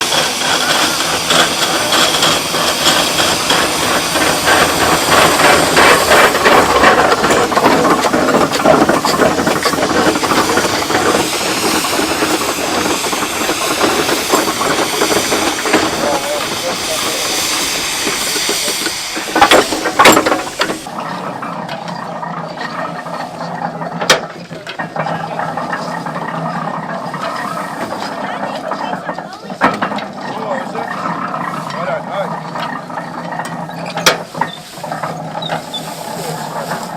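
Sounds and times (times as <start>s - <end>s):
mechanical clatter: 0.0s - 36.9s
steam engine hissing and chuffing: 0.0s - 36.9s.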